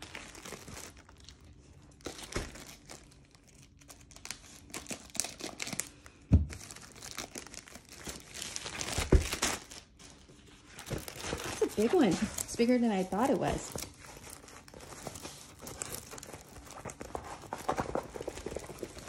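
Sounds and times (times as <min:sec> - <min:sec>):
plastic sleeve crinkling: 0:00.0 - 0:19.0.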